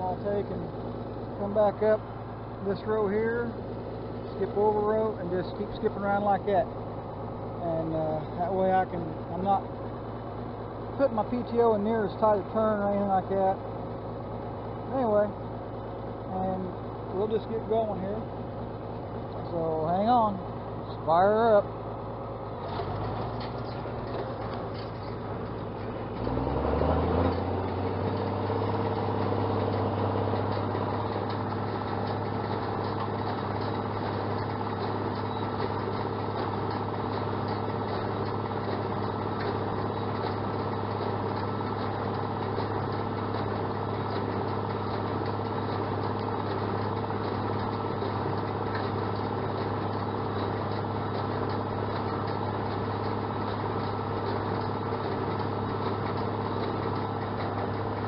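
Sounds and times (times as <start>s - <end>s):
tractor engine revving: 0.0s - 58.0s.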